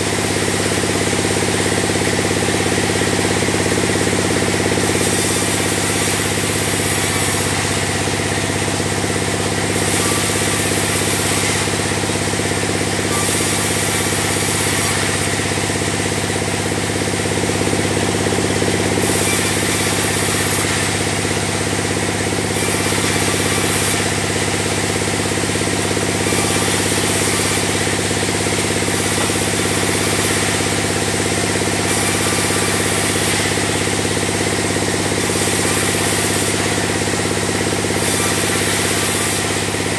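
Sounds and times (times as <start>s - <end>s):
band saw running: 0.0s - 39.9s.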